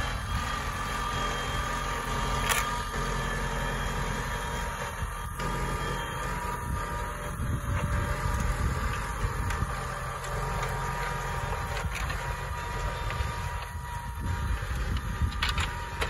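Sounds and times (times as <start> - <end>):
faint steady whine: 0.0 - 16.0
tractor diesel engine under load: 0.0 - 16.0.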